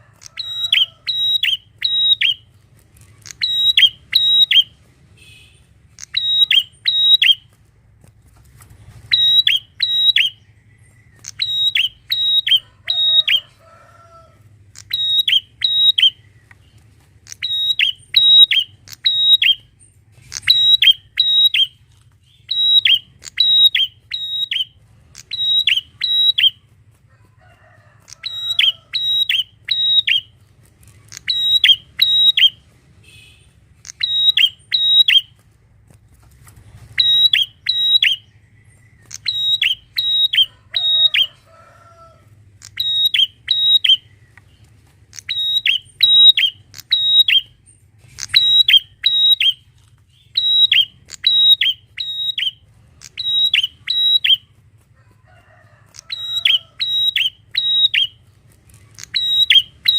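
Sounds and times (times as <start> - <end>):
bird calling with sharp high notes: 0.0 - 2.5, 3.2 - 7.5, 9.0 - 13.8, 14.7 - 26.7, 28.1 - 30.4, 31.0 - 35.4, 36.8 - 41.6, 42.6 - 54.6, 55.9 - 59.9.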